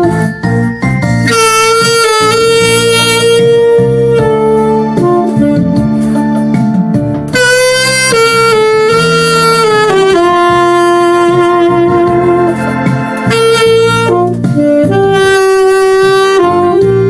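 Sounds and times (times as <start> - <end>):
saxophone melody: 0.0 - 17.0.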